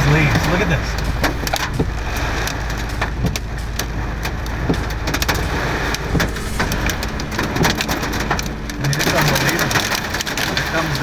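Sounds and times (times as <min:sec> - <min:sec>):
heavy rain drops striking: 0:00.0 - 0:11.0
strong wind rumble: 0:00.0 - 0:11.0.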